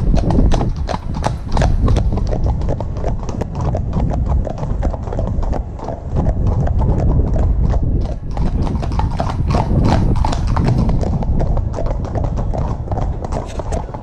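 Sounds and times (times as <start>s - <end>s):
horses hooves on tarmac: 0.0s - 14.0s
steady low rumble: 0.0s - 14.0s.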